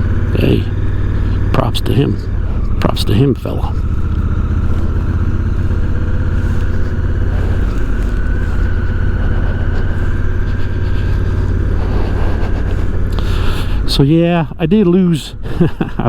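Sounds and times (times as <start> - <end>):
motorcycle engine running: 0.0 - 16.0
thin whine: 0.0 - 16.0.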